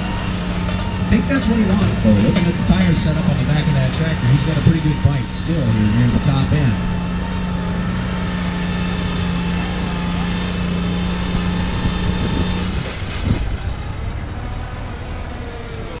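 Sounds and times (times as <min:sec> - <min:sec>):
garden tractor engine under load: 0:00.0 - 0:16.0.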